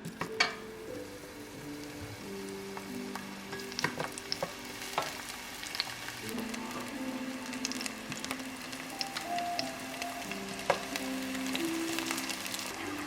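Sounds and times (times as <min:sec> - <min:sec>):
oil sizzling in a pan: 0:00.0 - 0:13.0
soft background music: 0:00.0 - 0:13.0
crackling pops: 0:01.7 - 0:12.8.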